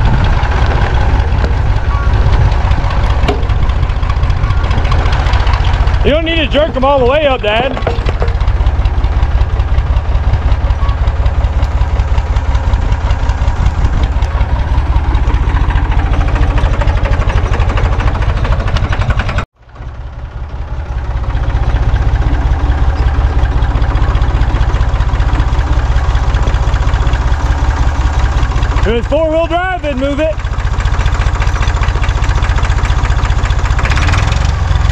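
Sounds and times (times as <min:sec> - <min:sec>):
tractor engine chugging: 0:00.0 - 0:34.9.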